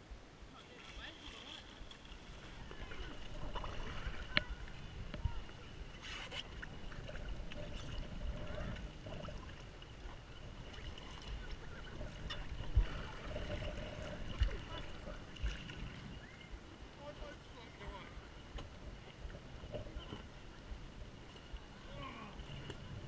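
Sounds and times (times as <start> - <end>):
water lapping around kayaks: 0.0 - 23.0.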